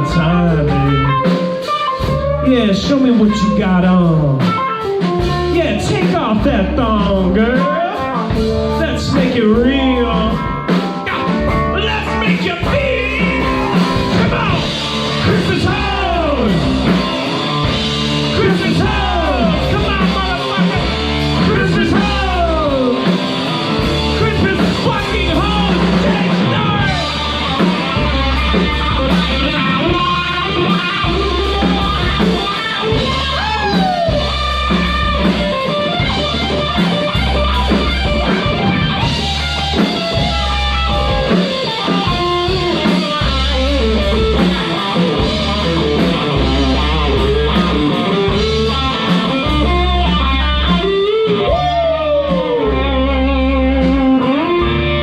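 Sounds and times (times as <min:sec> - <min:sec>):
bass guitar: 0:00.0 - 0:55.0
drum kit beat: 0:00.0 - 0:55.0
electric guitar lead: 0:00.0 - 0:55.0.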